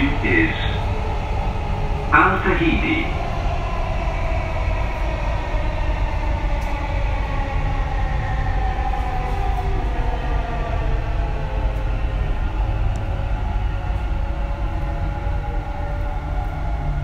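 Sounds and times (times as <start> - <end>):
train rumbling in a tunnel: 0.0 - 17.0.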